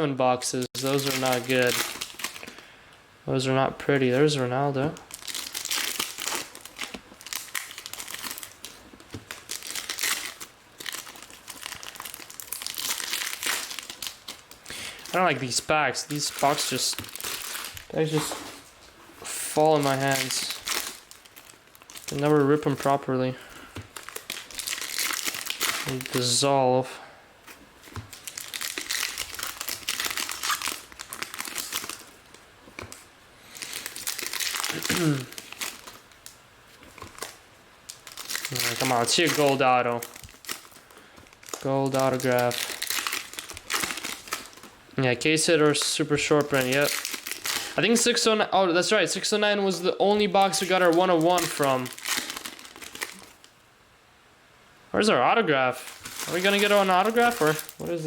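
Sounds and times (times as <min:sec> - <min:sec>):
card wrappers crinkling and tearing: 0:00.8 - 0:02.7, 0:03.8 - 0:26.5, 0:27.5 - 0:53.5, 0:55.8 - 0:58.0.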